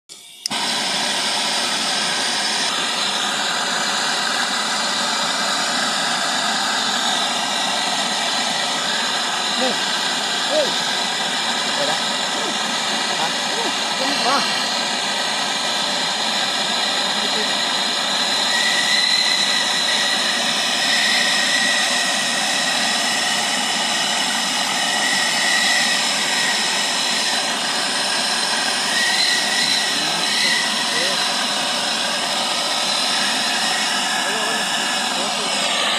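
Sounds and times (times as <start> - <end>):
torch flame hissing: 0.2 - 35.9.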